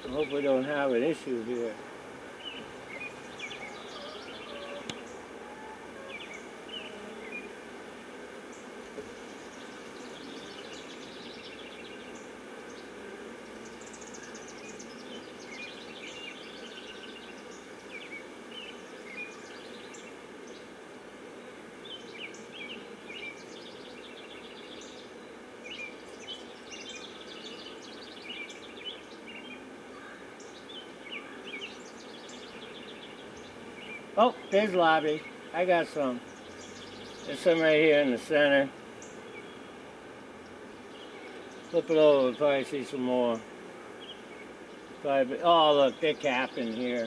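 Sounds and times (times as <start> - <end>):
small birds chirping: 0.0 - 7.7, 8.4 - 20.8, 21.4 - 47.0
bees humming: 0.0 - 47.0.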